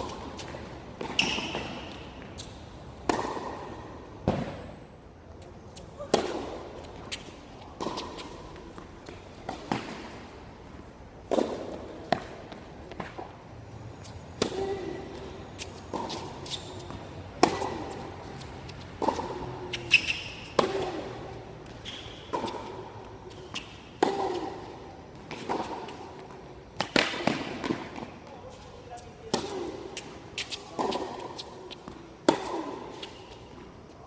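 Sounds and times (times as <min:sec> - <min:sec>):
tennis ball bounces: 0:00.0 - 0:04.6, 0:06.0 - 0:10.4, 0:11.2 - 0:13.4, 0:14.4 - 0:28.1, 0:29.2 - 0:33.7.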